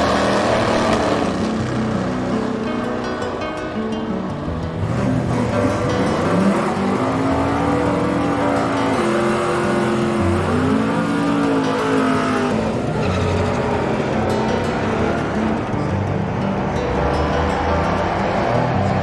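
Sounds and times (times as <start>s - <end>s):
race car engine accelerating: 0.0s - 2.6s, 4.7s - 19.0s.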